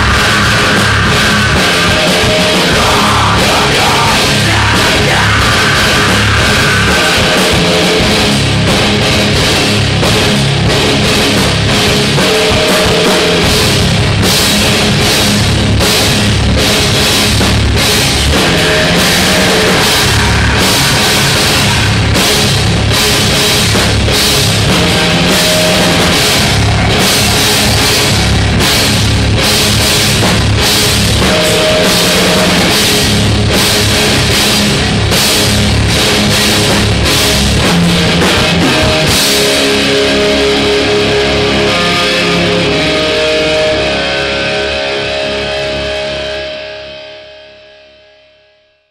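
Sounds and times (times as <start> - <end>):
heavy rock band playing: 0.0 - 47.9.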